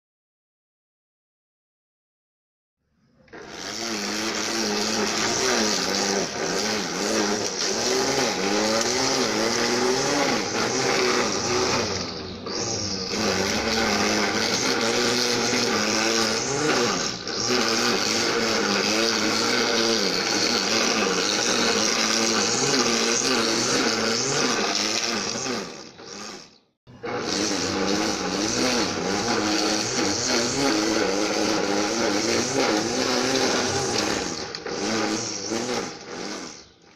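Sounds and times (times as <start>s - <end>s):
lawn mower engine running: 3.2s - 36.9s.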